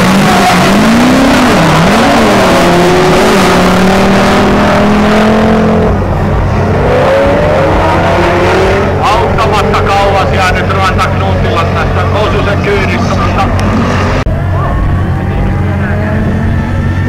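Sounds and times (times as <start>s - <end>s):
car engines revving: 0.0s - 17.0s
loud rushing noise: 0.0s - 17.0s.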